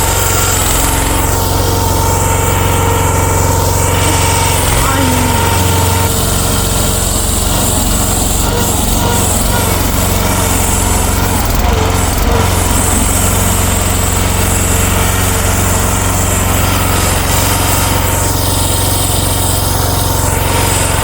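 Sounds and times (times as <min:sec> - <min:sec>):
small engine running under load: 0:00.0 - 0:21.0.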